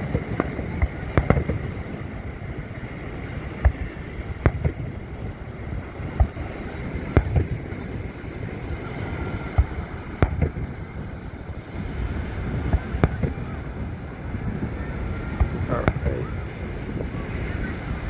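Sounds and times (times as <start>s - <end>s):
fireworks bangs: 0.0s - 18.0s
wind noise on microphone: 0.0s - 18.0s.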